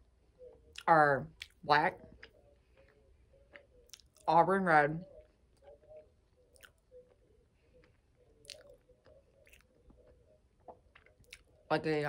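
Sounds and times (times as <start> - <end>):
close-up chewing: 0.5 - 4.3, 5.1 - 11.7.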